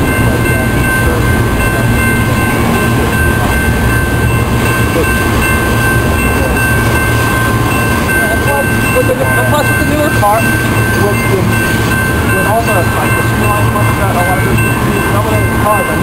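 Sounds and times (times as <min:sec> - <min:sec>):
freight train wheels rumbling: 0:00.0 - 0:16.0
high whine: 0:00.0 - 0:16.0.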